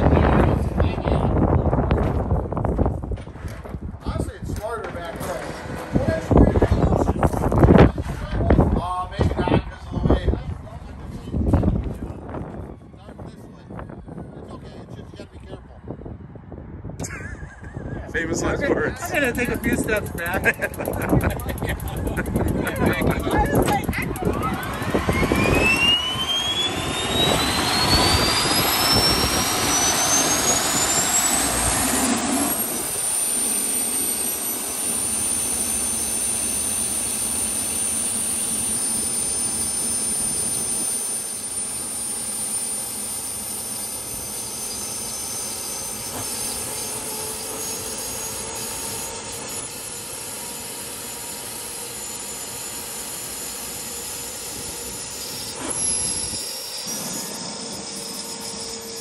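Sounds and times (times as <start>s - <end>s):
gas turbine whine: 0.0s - 59.0s.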